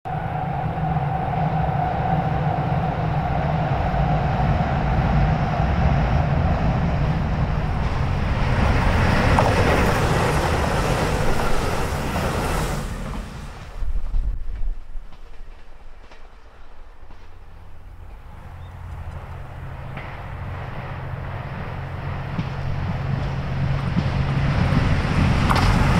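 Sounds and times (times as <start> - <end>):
diesel railcar engines: 0.0 - 25.9
wheels clattering on rail: 5.0 - 25.9.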